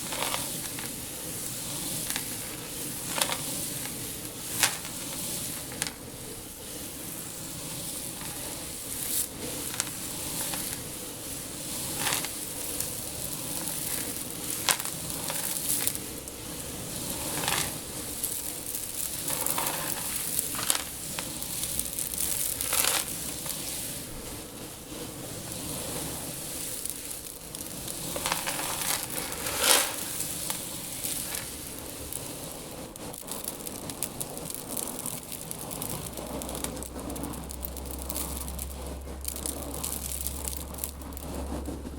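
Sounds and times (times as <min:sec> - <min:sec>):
crunching through seed: 0:00.0 - 0:06.0, 0:07.8 - 0:24.0, 0:25.4 - 0:41.8
loose seed rustling: 0:00.0 - 0:41.9.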